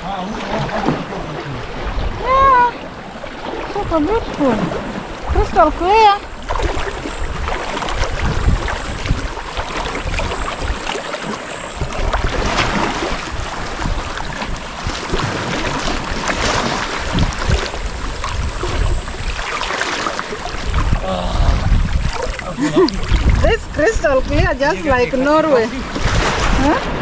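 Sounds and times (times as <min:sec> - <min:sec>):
shallow seawater washing: 0:00.0 - 0:27.0
wind rumbling on microphone: 0:00.0 - 0:27.0.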